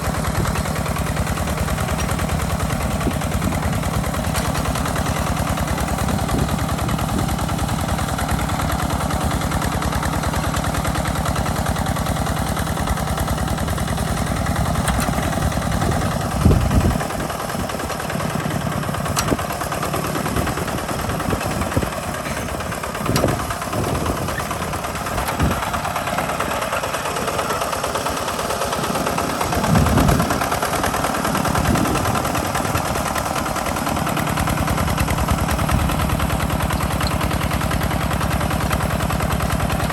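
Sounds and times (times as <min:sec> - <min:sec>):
tractor engine putt-putt: 0:00.0 - 0:39.9.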